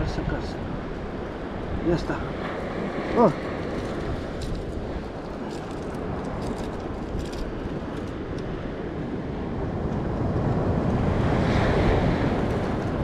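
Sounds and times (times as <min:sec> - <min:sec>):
waves washing on a beach: 0:00.0 - 0:13.0
wind rumbling on microphone: 0:00.0 - 0:13.0.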